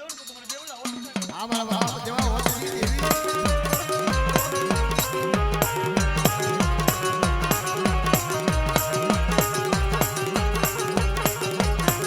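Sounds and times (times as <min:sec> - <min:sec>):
hand drum beating: 0:01.8 - 0:12.0
held melody notes: 0:02.2 - 0:12.0.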